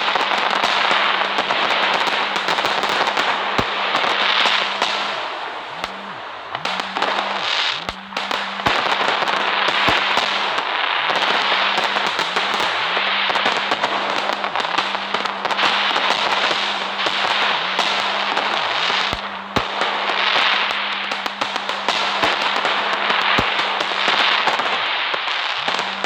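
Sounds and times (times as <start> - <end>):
fireworks crackling: 0.0 - 26.0
steady hiss: 0.0 - 26.0.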